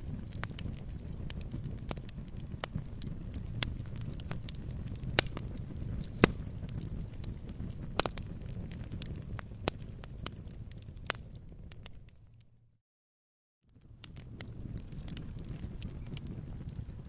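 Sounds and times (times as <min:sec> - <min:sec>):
campfire crackling and popping: 0:00.0 - 0:12.5, 0:13.7 - 0:17.0
low rumble of flames: 0:00.0 - 0:12.7, 0:13.7 - 0:17.0.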